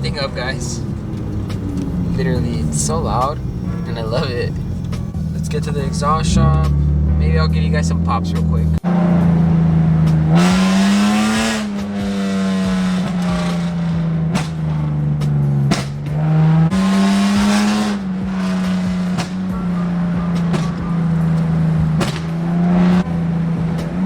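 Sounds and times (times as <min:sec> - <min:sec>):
car engine and exhaust drone: 0:00.0 - 0:24.0
exhaust cracks: 0:00.0 - 0:24.0.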